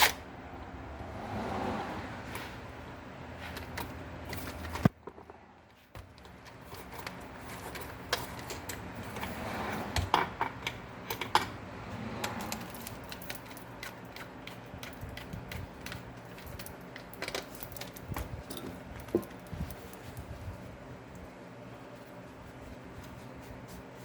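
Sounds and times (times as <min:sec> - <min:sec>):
low steady hum: 0:01.9 - 0:24.0.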